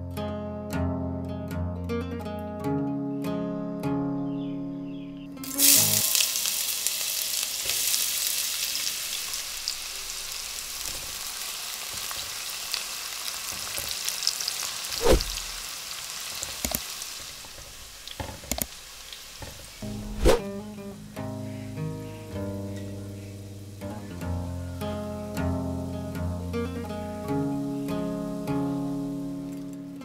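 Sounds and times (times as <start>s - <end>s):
onions sizzling in oil: 5.4s - 20.4s, 21.0s - 30.0s.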